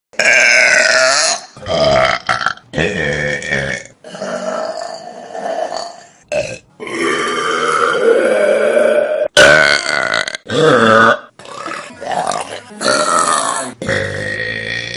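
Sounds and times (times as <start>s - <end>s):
person burping loudly: 0.2s - 14.9s.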